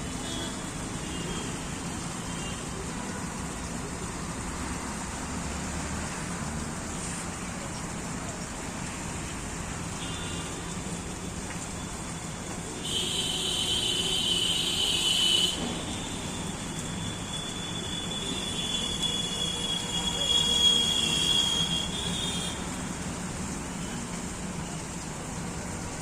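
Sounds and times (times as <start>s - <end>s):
distant traffic rumble: 0.0s - 26.0s.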